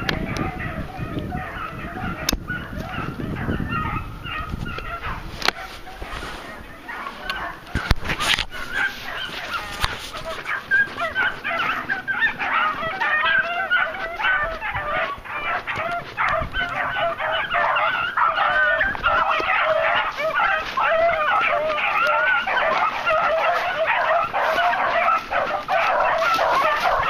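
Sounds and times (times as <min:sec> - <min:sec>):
hounds baying: 0:00.0 - 0:27.0.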